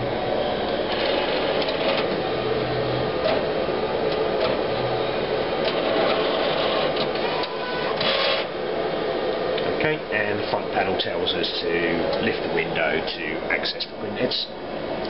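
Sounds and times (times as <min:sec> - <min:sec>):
plotter carriage whirring: 0:00.0 - 0:15.0.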